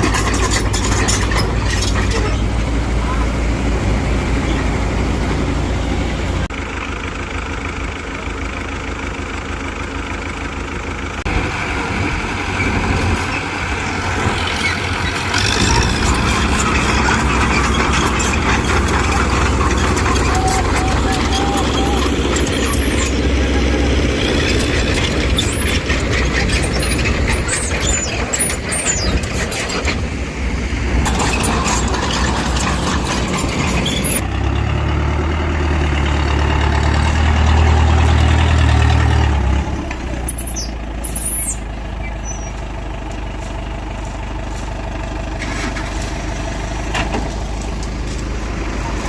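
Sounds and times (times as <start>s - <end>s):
heavy diesel engine droning: 0.0s - 49.0s.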